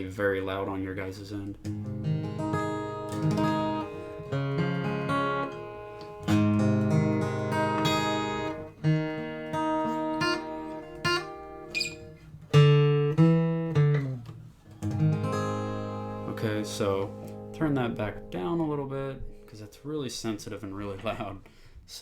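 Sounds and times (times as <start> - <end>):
acoustic guitar strummed chords: 1.6 - 20.2.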